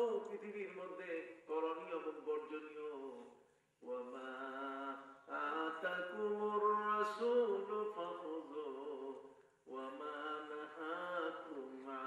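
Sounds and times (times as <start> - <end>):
man chanting into microphone: 0.0 - 12.0.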